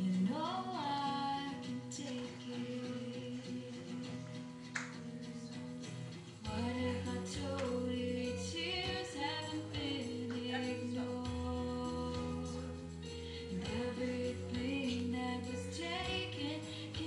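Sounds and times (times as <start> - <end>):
pop song with female vocal: 0.0 - 17.0.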